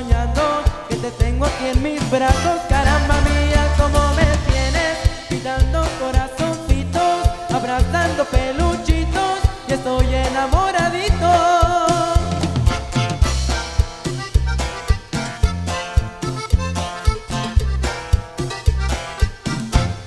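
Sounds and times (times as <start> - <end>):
live band playing: 0.0 - 20.0
melodic lead line with sliding notes: 0.0 - 20.0
steady bass and drum beat: 0.0 - 20.0.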